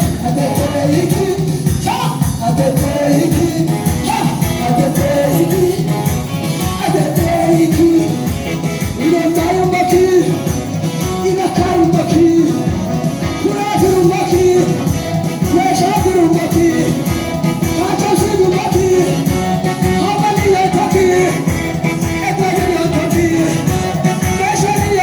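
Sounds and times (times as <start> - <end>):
song with band accompaniment: 0.0 - 25.0.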